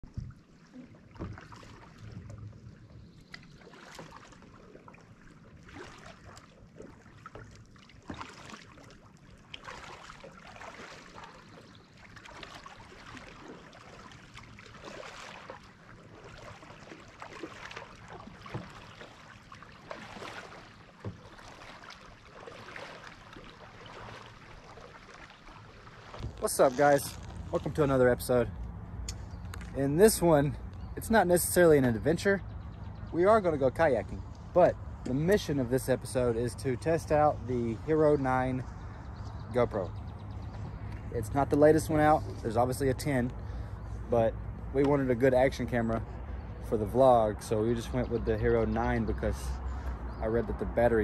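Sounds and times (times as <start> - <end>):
paddle strokes splashing water: 0.0 - 51.0.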